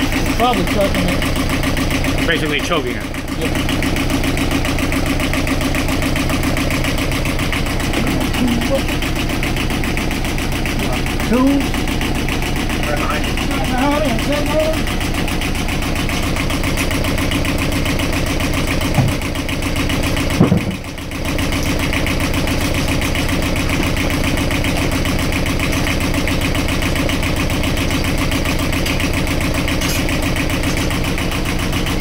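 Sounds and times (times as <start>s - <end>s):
marine diesel engine idling: 0.0s - 32.0s.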